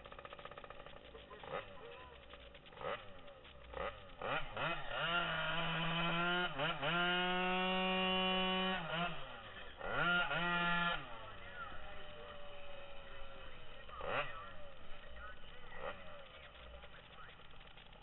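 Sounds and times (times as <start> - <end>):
scooter engine revving: 0.0 - 18.0.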